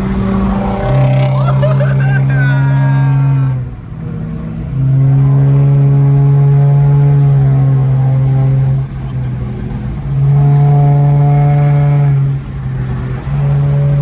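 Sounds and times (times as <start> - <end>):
loud vehicle drone: 0.0 - 14.0.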